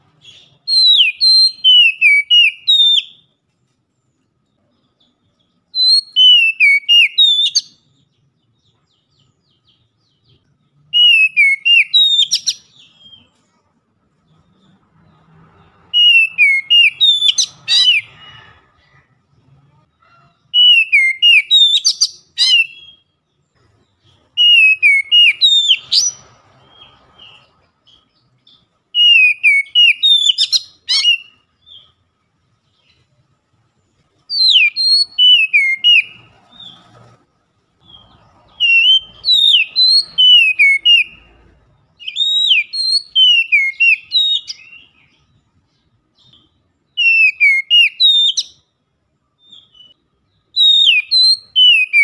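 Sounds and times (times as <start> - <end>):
bird singing whistled notes: 0.0 - 3.4, 4.2 - 13.4, 14.3 - 18.5, 20.5 - 32.0, 34.2 - 36.9, 37.8 - 52.0.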